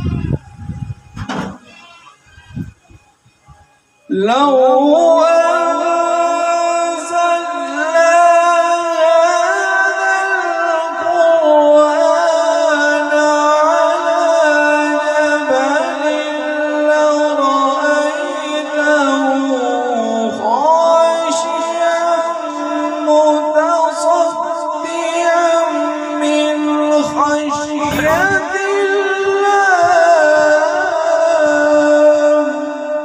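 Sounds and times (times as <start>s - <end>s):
man reciting melodically over pa: 3.9s - 33.0s.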